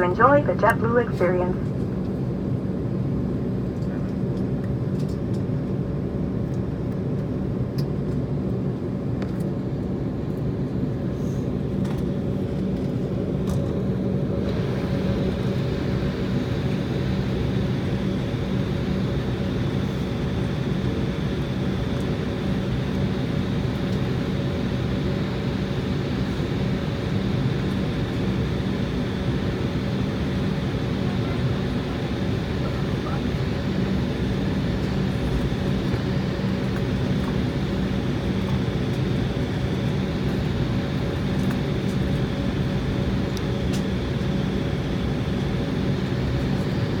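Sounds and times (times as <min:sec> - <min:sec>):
jet engines and cabin air hum: 0:00.0 - 0:47.0.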